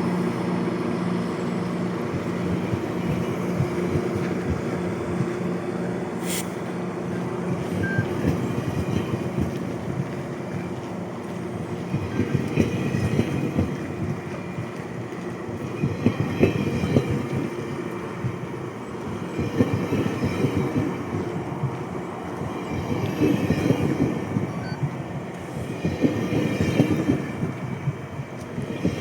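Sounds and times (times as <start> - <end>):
train clunks: 0.0 - 29.0
train wheels rumbling on rail: 0.0 - 29.0.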